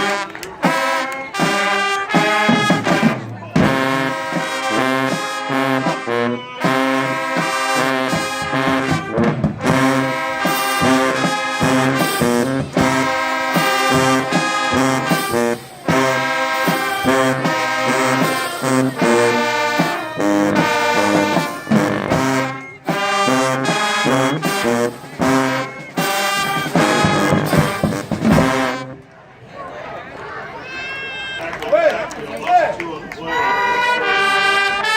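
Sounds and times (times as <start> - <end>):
school band with brass playing: 0.0 - 29.2, 32.5 - 34.9.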